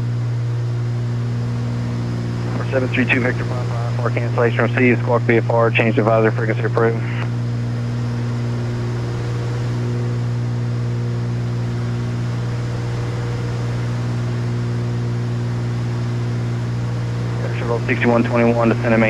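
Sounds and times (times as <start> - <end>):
twin propeller engines droning: 0.0 - 19.0.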